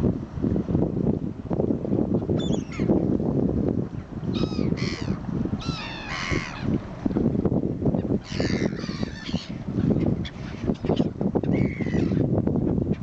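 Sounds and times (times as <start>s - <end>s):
constant low rumble: 0.0s - 13.0s.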